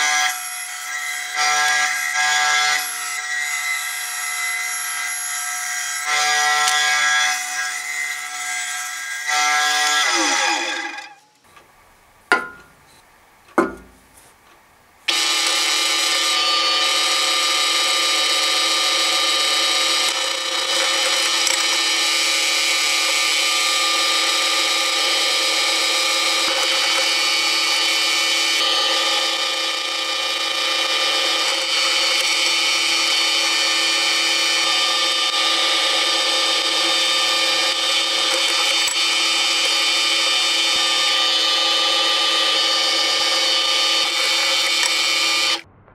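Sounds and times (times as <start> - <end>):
drill press drilling steel: 0.0 - 11.2, 15.1 - 45.6.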